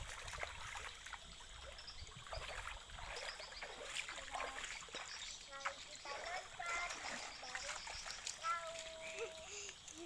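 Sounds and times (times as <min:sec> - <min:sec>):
river water trickling and lapping: 0:00.0 - 0:10.0
small splashes: 0:00.0 - 0:10.0.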